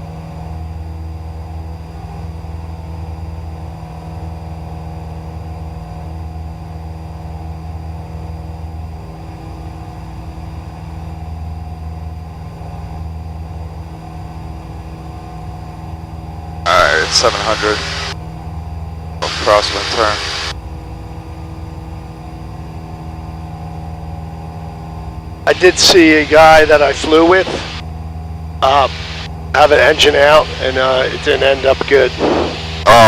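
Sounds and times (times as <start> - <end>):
airplane engine and propeller drone: 0.0 - 33.0.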